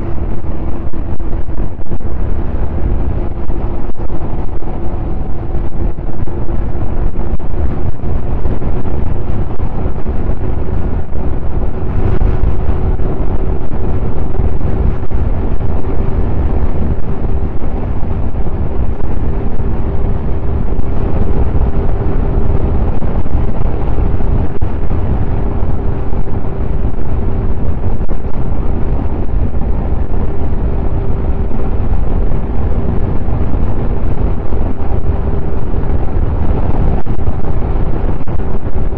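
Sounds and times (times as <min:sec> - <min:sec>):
snowmobile engine running: 0:00.0 - 0:38.9
wind buffeting microphone: 0:00.0 - 0:38.9.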